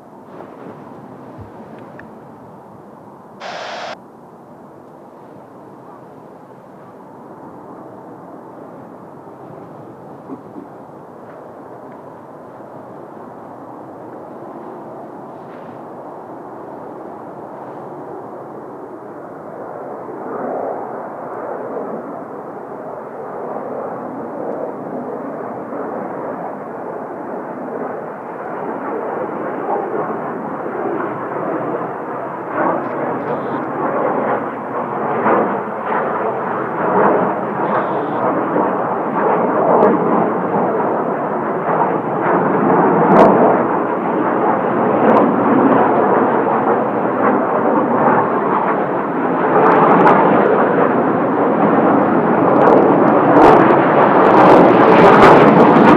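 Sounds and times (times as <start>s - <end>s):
jet aircraft taking off: 0.0s - 4.0s, 7.0s - 55.9s.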